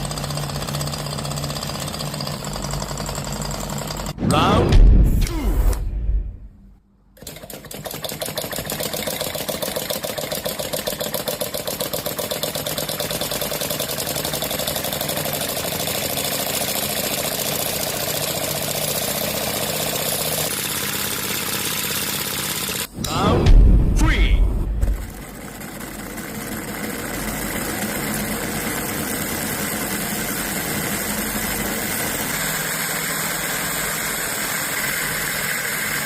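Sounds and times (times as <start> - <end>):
small motor fluttering: 0.0 - 4.2, 7.4 - 22.9, 25.0 - 36.0.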